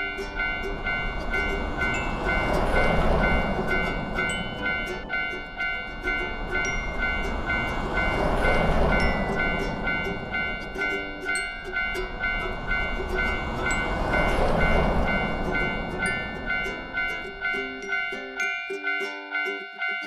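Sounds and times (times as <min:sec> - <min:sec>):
rushing rumble: 0:00.0 - 0:18.2
level-crossing warning bell: 0:00.0 - 0:20.0.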